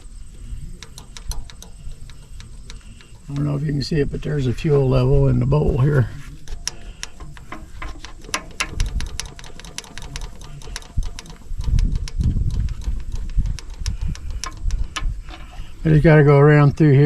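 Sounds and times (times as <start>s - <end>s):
fuel pump lever clicking: 0.0s - 16.1s.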